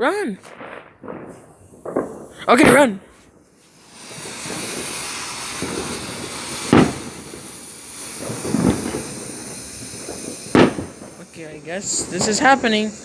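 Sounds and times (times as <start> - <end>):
firework spraying hiss: 0.1 - 13.0
burst of pops: 0.4 - 13.0
firework bang: 0.4 - 13.0.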